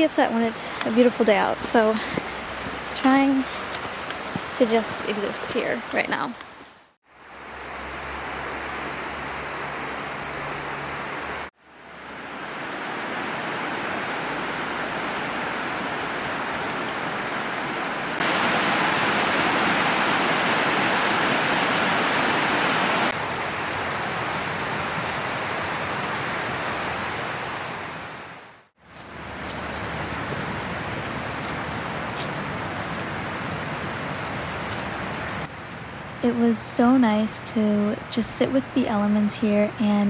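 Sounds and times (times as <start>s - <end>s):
flowing water rushing: 0.0s - 6.1s, 7.1s - 36.9s.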